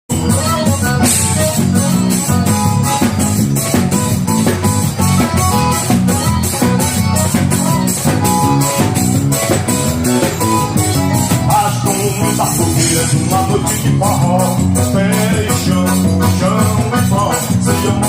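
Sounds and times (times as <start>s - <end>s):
drum kit steady beat: 0.1s - 18.0s
guitar: 0.1s - 18.0s.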